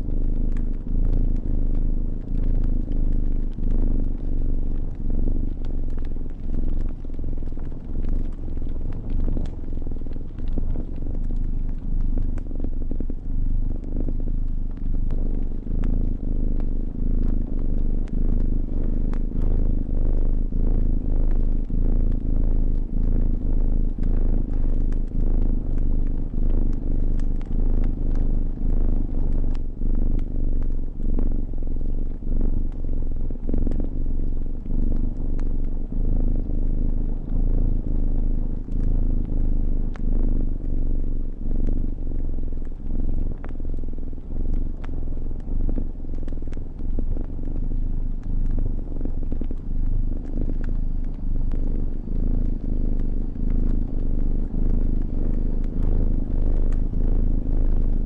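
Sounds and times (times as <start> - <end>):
cat purring: 0.0 - 58.0
wood fire crackling: 0.1 - 57.5.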